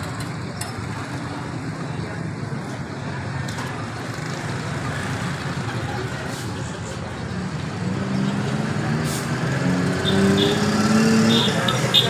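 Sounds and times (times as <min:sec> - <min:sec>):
people's voices: 0:00.0 - 0:12.0
traffic engine hum: 0:00.0 - 0:12.0.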